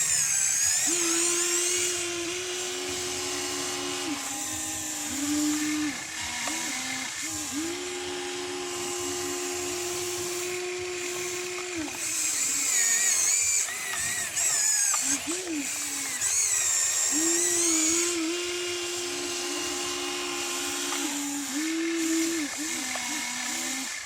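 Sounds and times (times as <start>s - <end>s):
small electric motors whining: 0.0s - 24.0s.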